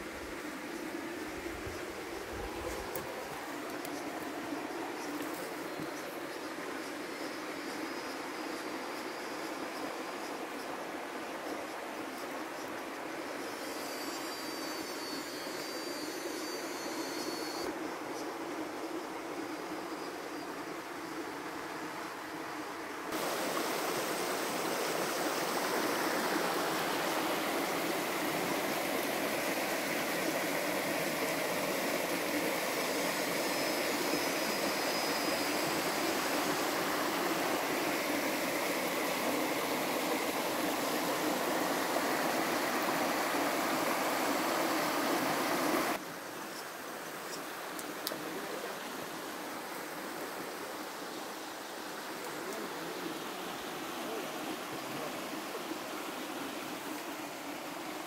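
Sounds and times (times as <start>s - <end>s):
stream running over stones: 0.0s - 13.8s, 20.6s - 58.0s.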